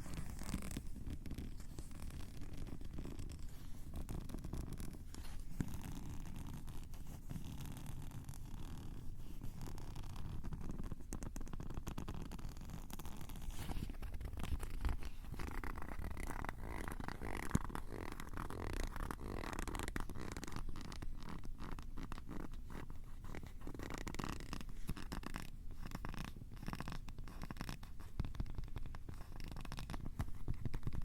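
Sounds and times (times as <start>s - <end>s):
scratching on microphone: 0.0s - 31.0s.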